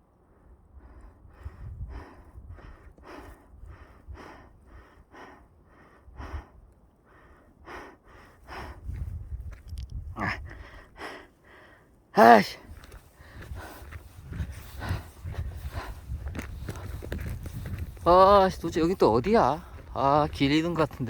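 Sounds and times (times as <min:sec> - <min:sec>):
person panting: 0:00.7 - 0:11.9, 0:12.6 - 0:20.4.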